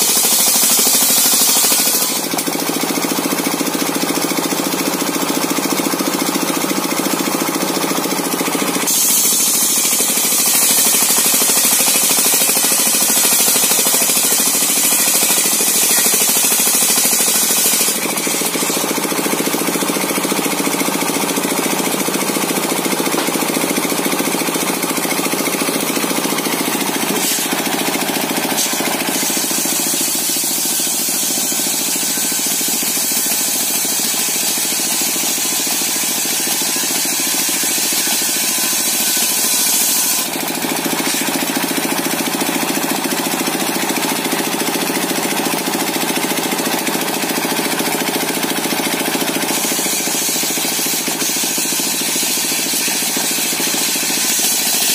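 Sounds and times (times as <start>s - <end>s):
circular saw cutting wood: 0.0s - 54.9s.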